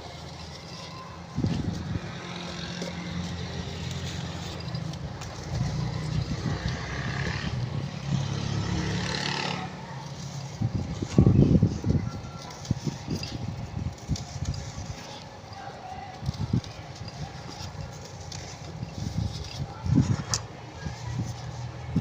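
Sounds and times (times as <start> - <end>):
engine humming: 0.0 - 22.0
faint crunching of ash blocks: 0.0 - 22.0.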